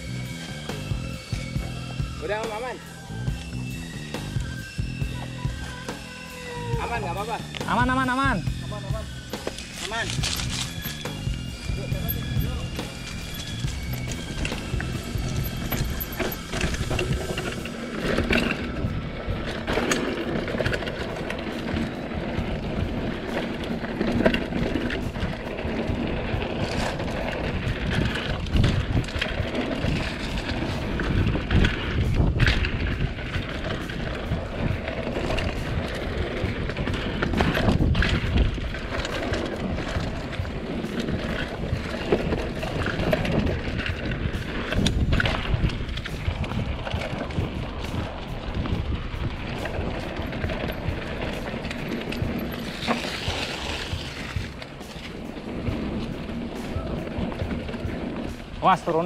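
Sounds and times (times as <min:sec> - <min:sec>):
bike rattling over bumps: 0:00.0 - 0:59.0
wind rushing over microphone: 0:06.6 - 0:59.0
tyres rolling on dirt and leaves: 0:06.8 - 0:59.0.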